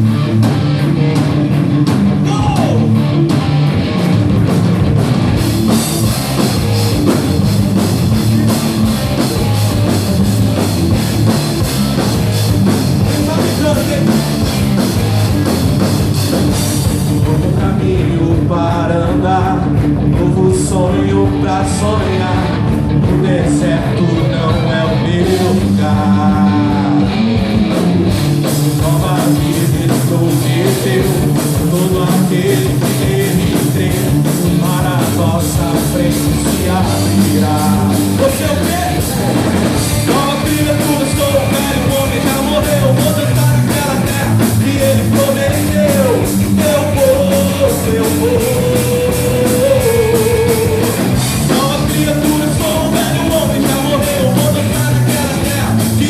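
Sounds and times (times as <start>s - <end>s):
high melodic lead line: 0.0s - 18.5s, 21.2s - 56.0s
rock band playing: 0.0s - 56.0s.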